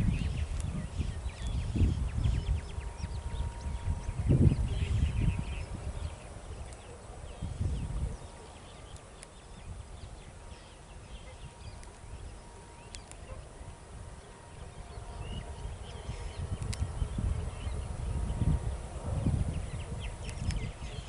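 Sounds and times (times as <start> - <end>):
small birds chirping: 0.0 - 21.0
wind buffeting microphone: 0.0 - 21.0.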